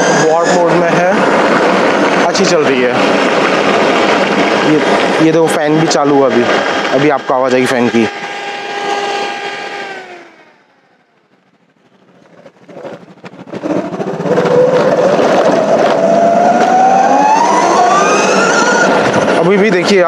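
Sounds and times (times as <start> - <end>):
electric scooter drivetrain whine: 0.0 - 20.0
road noise: 0.0 - 20.0.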